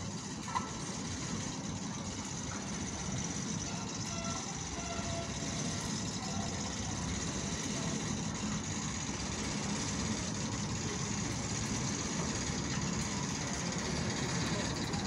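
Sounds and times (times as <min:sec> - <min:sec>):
diesel locomotive engine throbbing: 0:00.0 - 0:15.0.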